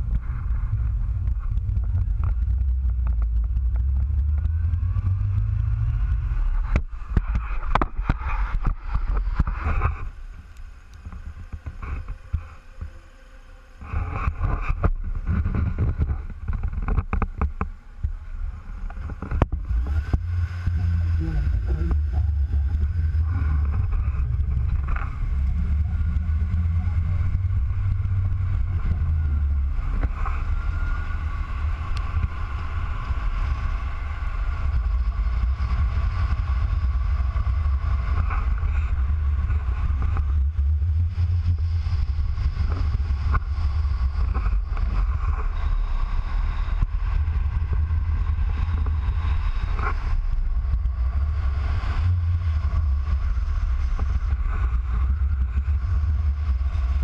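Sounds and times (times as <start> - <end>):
faint steady hum: 0.0 - 57.0
heavy wind rumble: 0.0 - 57.0
road noise: 0.0 - 57.0.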